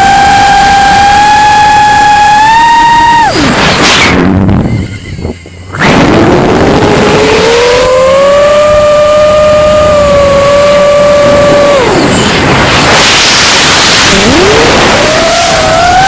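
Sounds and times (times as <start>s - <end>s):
drone motors whining: 0.0s - 3.6s, 4.7s - 16.0s.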